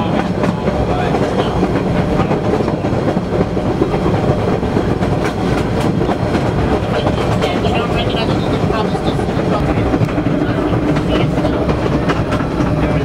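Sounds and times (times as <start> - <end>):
rail joint clicks: 0.0 - 13.0
subway wheels rumbling on rails: 0.0 - 13.0.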